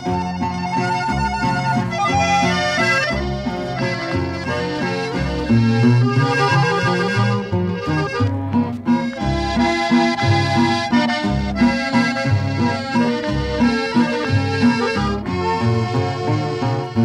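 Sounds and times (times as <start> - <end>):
bass line: 0.0 - 17.0
button accordion melody: 0.0 - 17.0
guitar accompaniment: 0.0 - 17.0.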